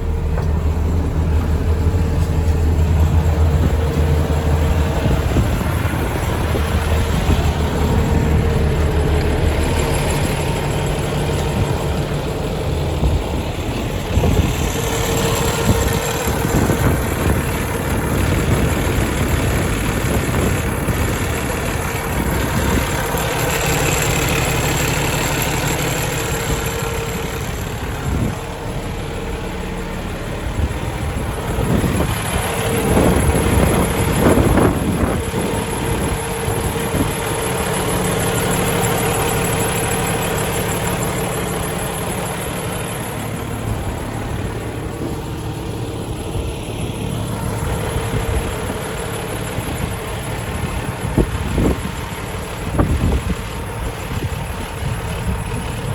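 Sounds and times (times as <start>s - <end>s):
truck diesel engine idling: 0.0s - 55.9s.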